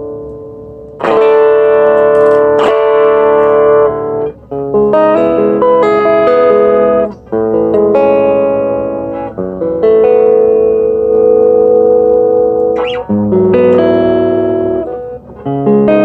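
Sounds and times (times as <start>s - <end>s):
electric guitar through small amp: 0.0s - 16.0s.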